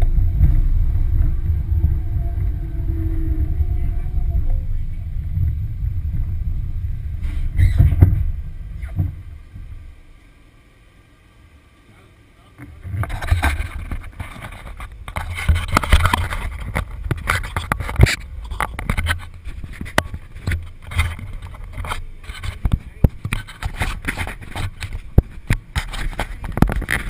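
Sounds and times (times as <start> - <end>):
wheels clacking and knocking: 0.0 - 9.9, 12.6 - 27.0
roller coaster rolling on track: 0.0 - 10.2, 12.4 - 27.0.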